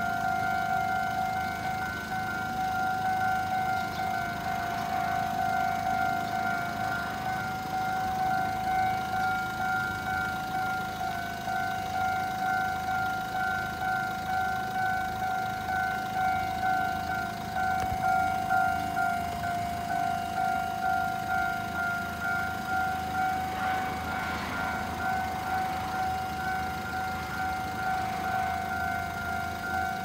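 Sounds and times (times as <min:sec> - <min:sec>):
level crossing warning bell ringing: 0:00.0 - 0:30.0.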